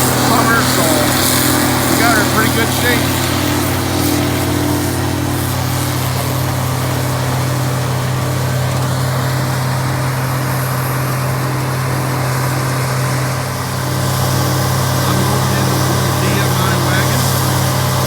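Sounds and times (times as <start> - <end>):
diesel farm machinery running: 0.0 - 18.0.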